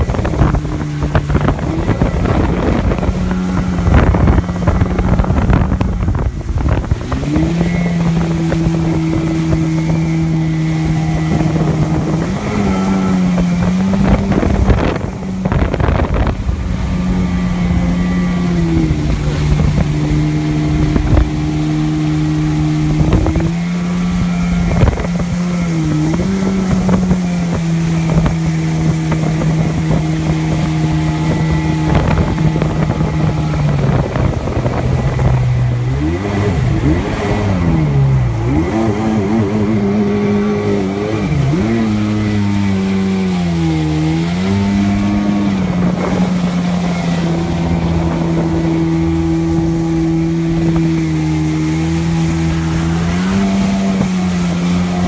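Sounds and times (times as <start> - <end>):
jet ski engine running: 0.0 - 55.0
water rushing: 0.0 - 55.0
wind on microphone: 0.0 - 55.0.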